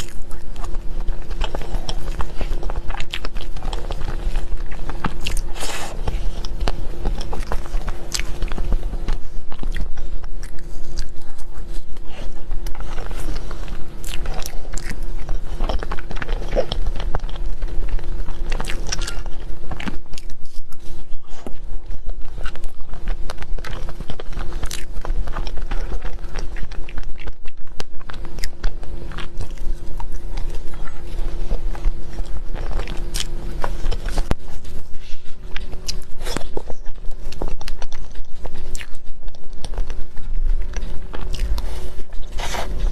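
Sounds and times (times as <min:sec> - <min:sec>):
chewing with mouth clicks: 0:00.0 - 0:42.9
steady low hum: 0:00.0 - 0:42.9.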